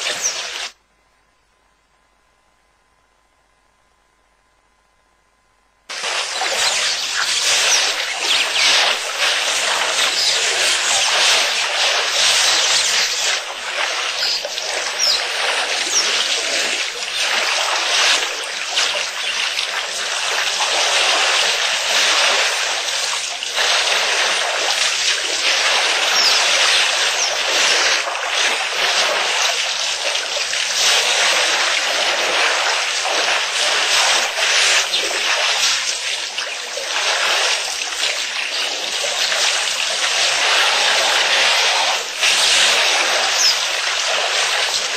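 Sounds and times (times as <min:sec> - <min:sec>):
water splashing and trickling: 0:05.9 - 0:44.9.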